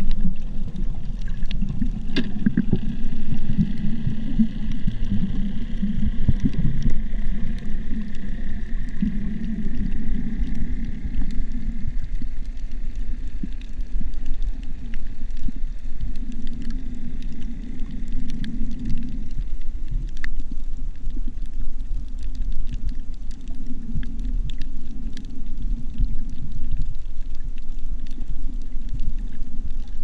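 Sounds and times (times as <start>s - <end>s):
faint clicks and crackles: 0.0s - 30.0s
muffled underwater water rumble: 0.0s - 30.0s.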